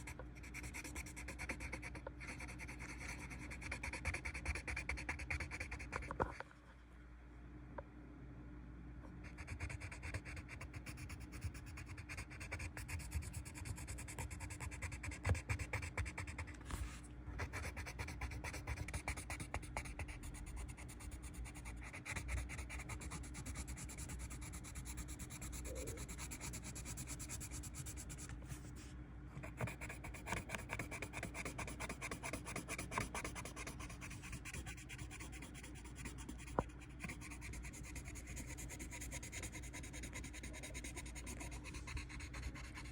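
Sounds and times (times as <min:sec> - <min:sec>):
colored pencil scratching paper: 0:00.0 - 0:06.1, 0:09.2 - 0:42.9.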